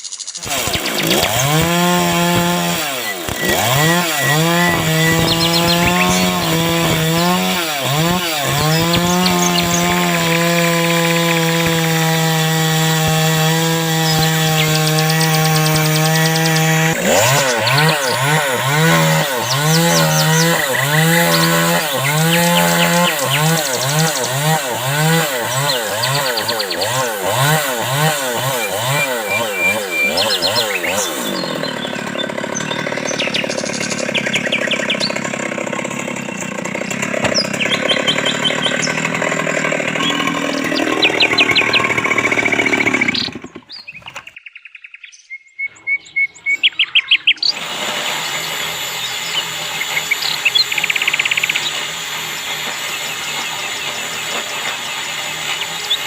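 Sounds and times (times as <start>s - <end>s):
birds chirping: 0.0s - 56.0s
saw cutting wood: 0.3s - 44.2s, 47.4s - 56.0s.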